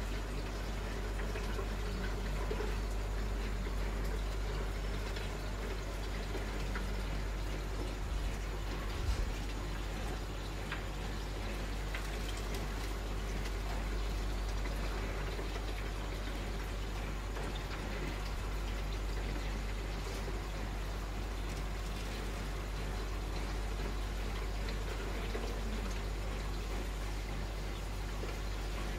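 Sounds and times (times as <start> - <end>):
aquarium water splashing: 0.0 - 28.9
low constant hum: 0.0 - 28.9.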